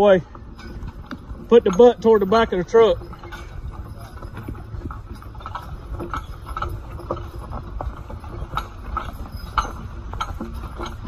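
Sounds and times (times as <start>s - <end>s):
horse hoof clops: 0.0s - 11.0s.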